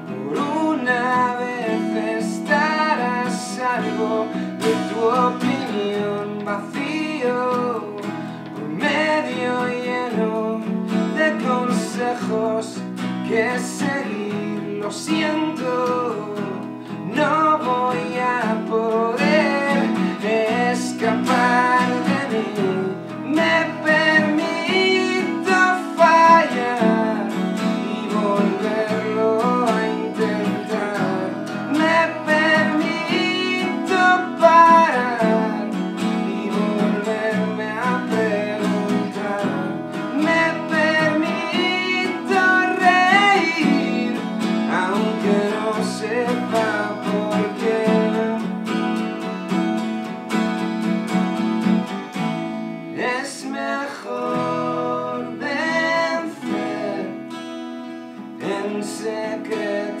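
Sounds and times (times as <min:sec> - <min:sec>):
acoustic guitars strumming: 0:00.0 - 1:00.0.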